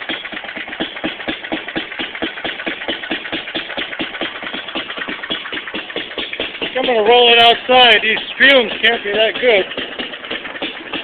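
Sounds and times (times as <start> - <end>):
stationary engine running: 0.0 - 11.0.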